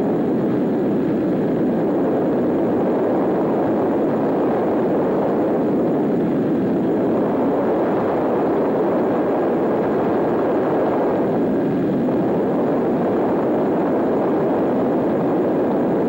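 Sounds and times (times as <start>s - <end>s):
piston aircraft engines running: 0.0s - 16.0s.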